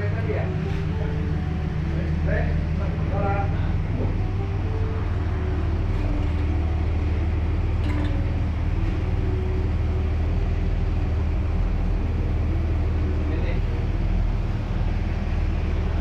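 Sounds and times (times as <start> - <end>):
off-road vehicle engine rumbling: 0.0 - 16.0.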